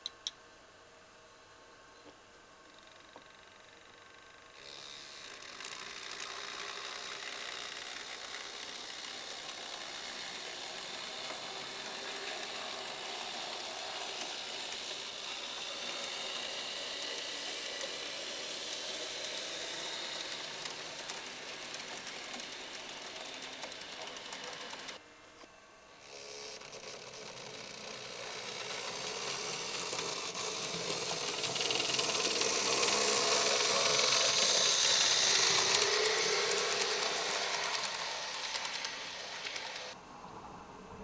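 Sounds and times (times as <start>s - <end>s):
model train motor whir: 2.6s - 25.0s, 26.0s - 40.0s
wheels clicking on track: 5.3s - 25.0s, 26.8s - 40.0s.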